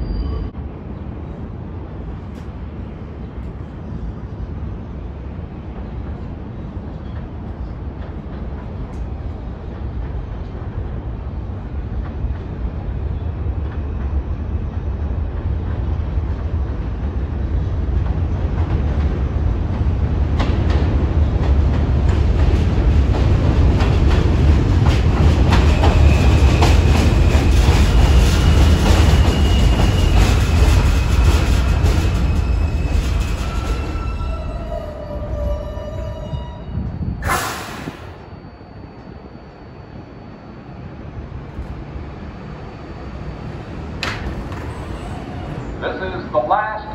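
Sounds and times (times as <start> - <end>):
subway train rumbling: 0.0 - 46.9.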